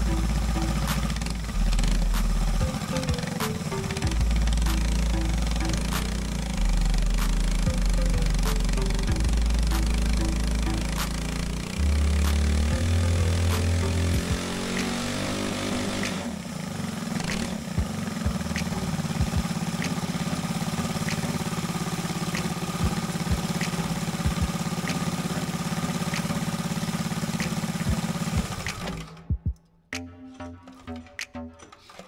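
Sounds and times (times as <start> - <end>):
kart engine running: 0.0 - 29.4.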